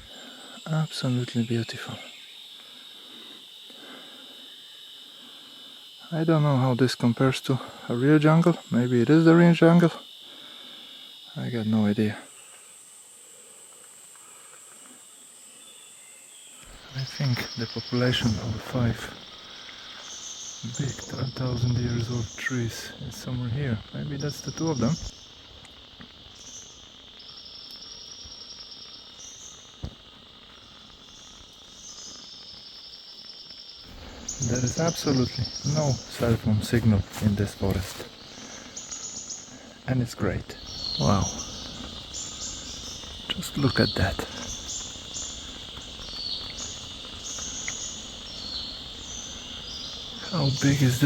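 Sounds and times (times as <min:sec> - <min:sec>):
high insect trilling: 0:00.0 - 0:51.0
insects buzzing: 0:00.0 - 0:51.0.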